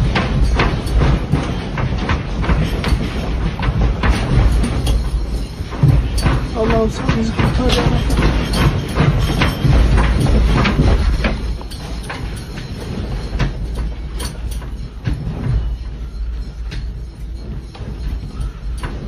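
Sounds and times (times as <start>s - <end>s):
building rattling knocks: 0.0s - 19.0s.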